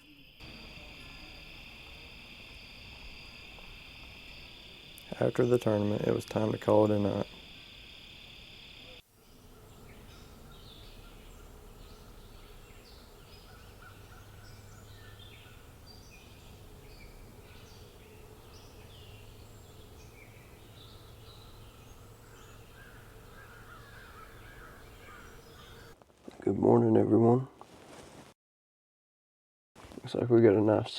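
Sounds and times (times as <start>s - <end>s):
faint low hum: 0.0s - 25.8s
birds chirping: 0.4s - 26.0s.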